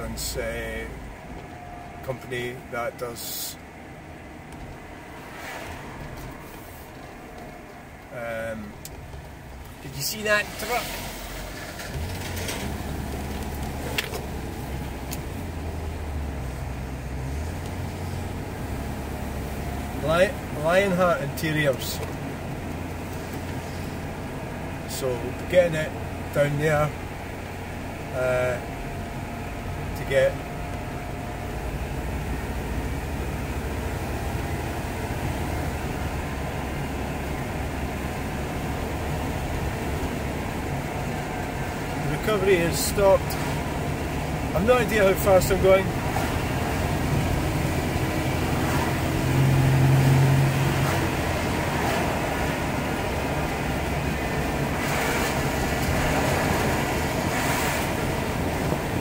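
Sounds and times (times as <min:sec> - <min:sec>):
car engine drone: 0:00.0 - 0:59.0
tyre noise on wet road: 0:00.0 - 0:59.0.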